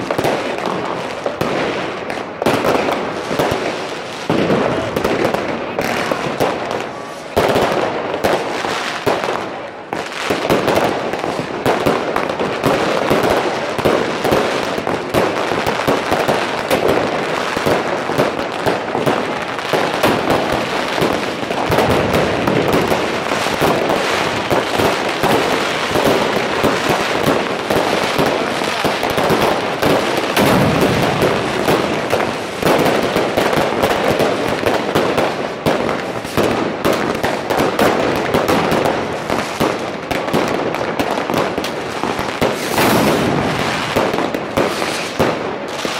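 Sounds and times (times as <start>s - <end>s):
fireworks crackling and banging: 0.0s - 45.9s.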